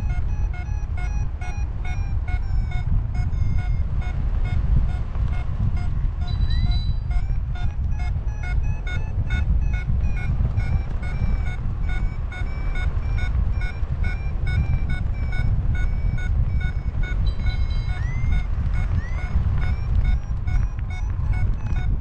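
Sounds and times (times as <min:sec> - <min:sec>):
variometer beeping: 0:00.0 - 0:22.0
wind rumble on microphone: 0:00.0 - 0:22.0.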